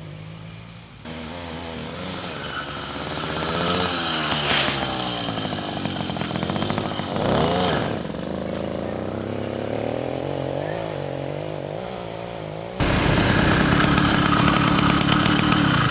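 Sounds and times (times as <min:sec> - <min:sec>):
small petrol engine revving: 0:00.0 - 0:15.9.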